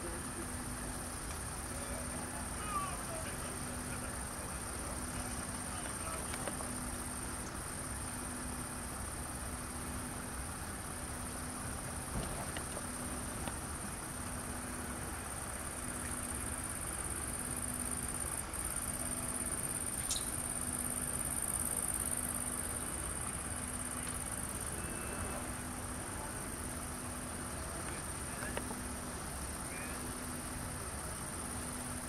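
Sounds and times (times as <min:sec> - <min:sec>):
crickets trilling: 0:00.0 - 0:32.0
faint low hum: 0:00.0 - 0:32.0.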